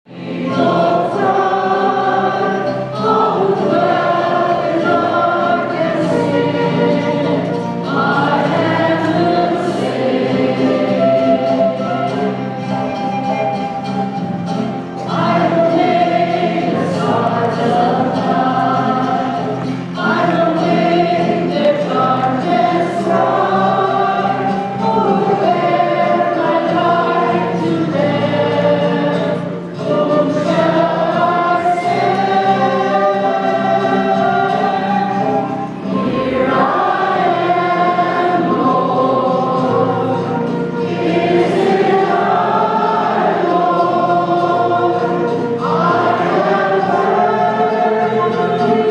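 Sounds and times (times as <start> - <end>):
choir singing a hymn: 0.1 - 48.9.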